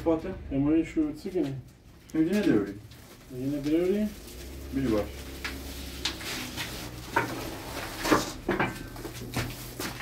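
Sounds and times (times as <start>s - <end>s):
plastic sacks rustling: 1.5s - 10.0s.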